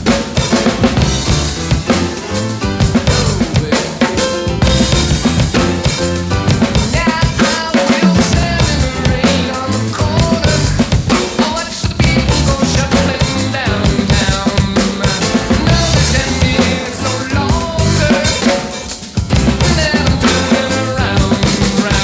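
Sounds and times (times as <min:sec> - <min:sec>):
drum kit playing: 0:00.0 - 0:22.0
rock music recording: 0:00.0 - 0:22.0.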